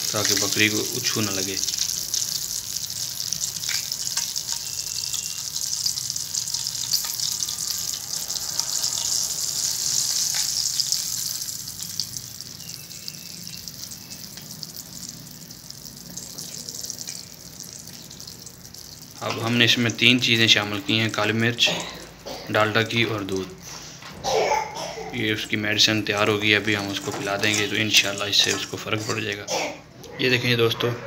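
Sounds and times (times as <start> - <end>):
fat sizzling and crackling: 0.0 - 24.0, 25.2 - 29.4.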